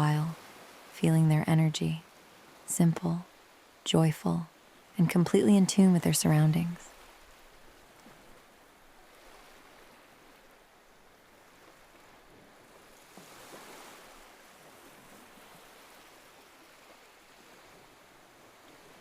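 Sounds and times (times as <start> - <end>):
ocean waves washing onto shore: 0.0 - 19.0.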